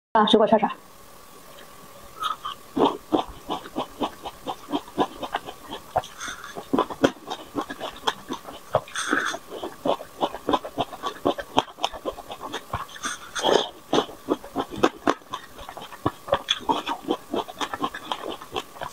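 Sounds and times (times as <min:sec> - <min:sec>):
grapes being bitten and chewed: 0:02.2 - 0:18.9.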